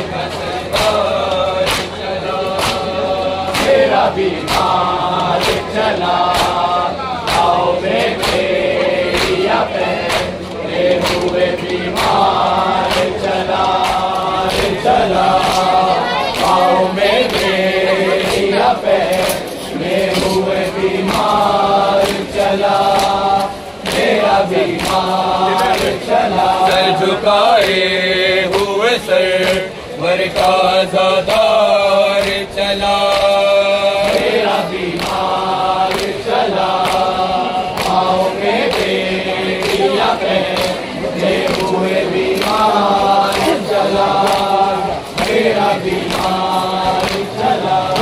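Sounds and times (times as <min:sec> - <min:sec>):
men chanting a lament in unison: 0:00.0 - 0:48.0.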